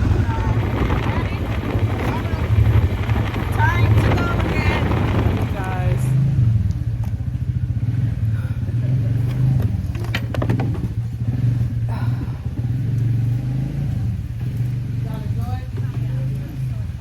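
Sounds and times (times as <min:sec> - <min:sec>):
atv engine droning: 0:00.0 - 0:17.0.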